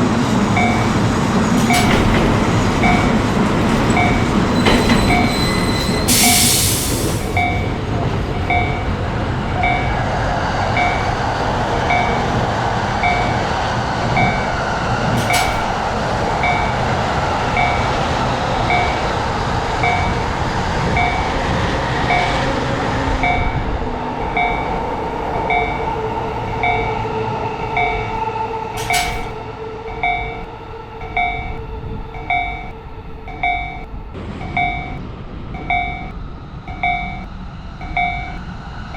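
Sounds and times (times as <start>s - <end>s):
electric train passing: 0.0s - 38.9s.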